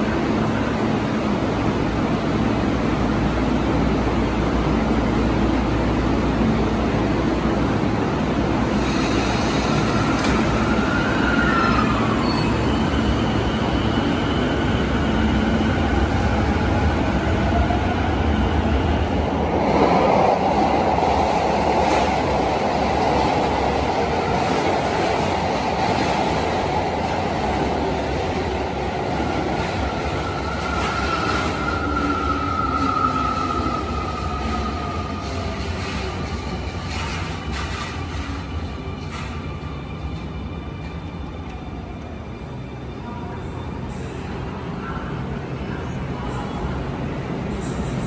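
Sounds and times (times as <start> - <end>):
train wheels rumbling on rail: 0.0 - 45.1.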